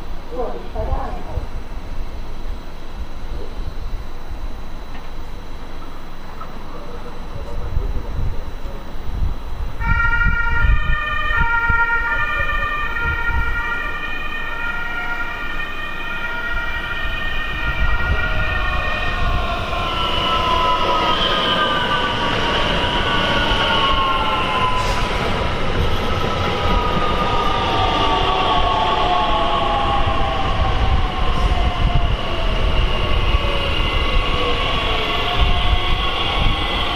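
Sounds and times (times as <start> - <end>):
train traction whine: 0.0 - 36.9.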